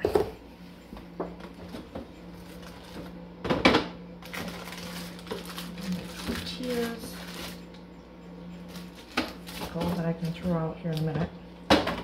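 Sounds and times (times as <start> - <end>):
refrigerator hum: 0.0 - 12.0.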